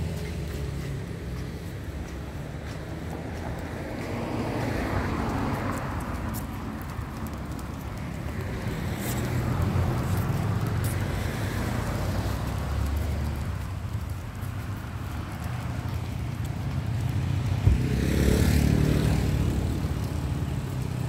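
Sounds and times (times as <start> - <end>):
steady low traffic rumble: 0.0 - 21.0
vehicles passing: 0.0 - 21.0.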